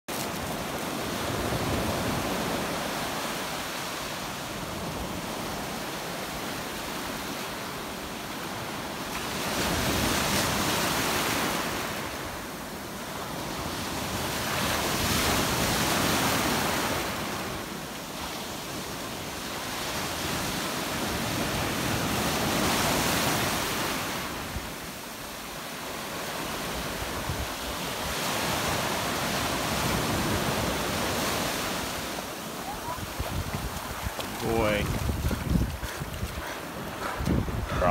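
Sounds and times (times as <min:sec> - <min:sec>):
ocean surf breaking on beach: 0:00.1 - 0:37.9.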